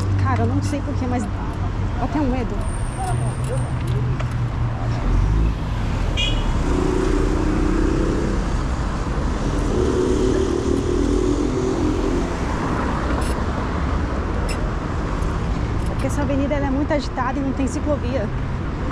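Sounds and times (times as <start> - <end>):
vehicles passing by: 0.0 - 18.9.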